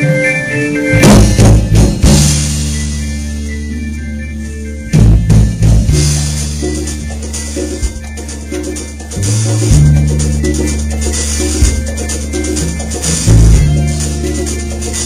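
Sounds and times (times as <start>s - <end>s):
drum kit hits and fills: 0.0s - 4.0s, 4.9s - 15.0s.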